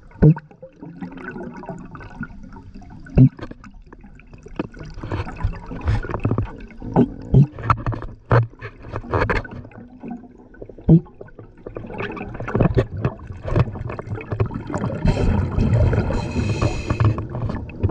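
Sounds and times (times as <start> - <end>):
air bubbles gurgling underwater: 0.0 - 7.6, 9.6 - 17.9.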